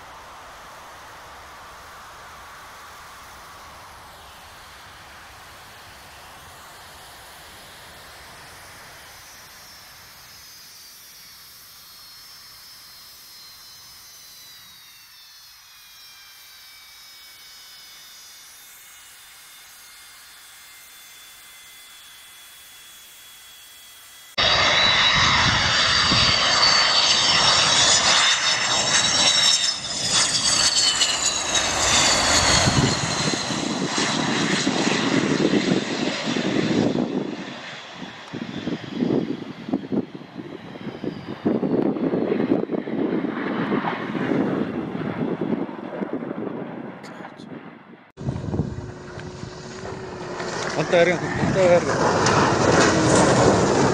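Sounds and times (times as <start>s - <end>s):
aircraft engine roar: 0.0s - 53.9s
jet engine whine: 0.0s - 53.9s.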